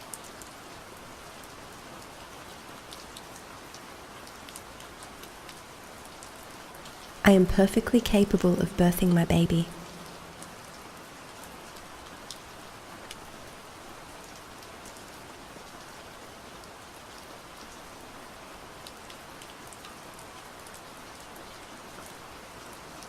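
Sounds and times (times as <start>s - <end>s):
gentle rain falling: 0.0s - 23.0s.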